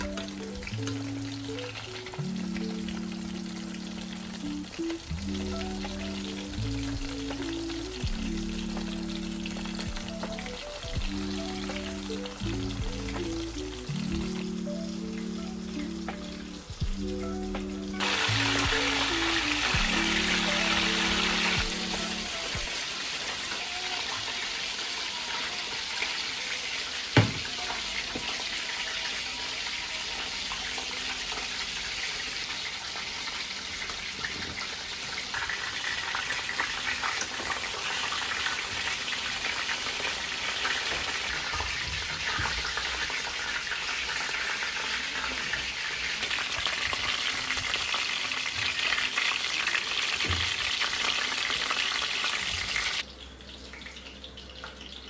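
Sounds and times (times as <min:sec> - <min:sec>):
food sizzling in a pan: 0:00.0 - 0:54.8.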